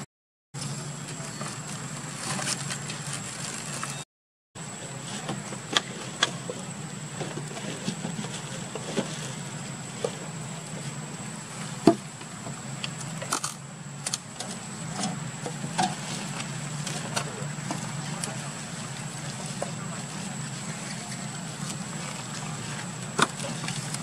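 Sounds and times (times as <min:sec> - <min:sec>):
steady low hum: 0:04.6 - 0:24.0.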